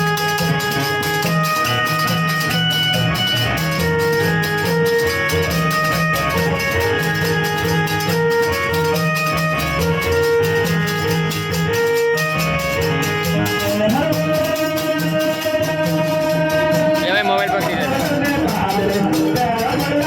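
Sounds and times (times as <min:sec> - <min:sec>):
fast percussion beat: 0:00.0 - 0:20.0
held melody notes: 0:00.0 - 0:20.0.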